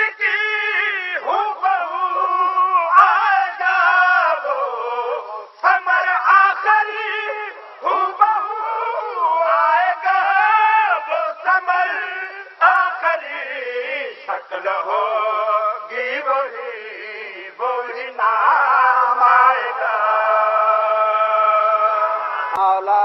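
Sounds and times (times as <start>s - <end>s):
man chanting devotional song: 0.0s - 23.0s.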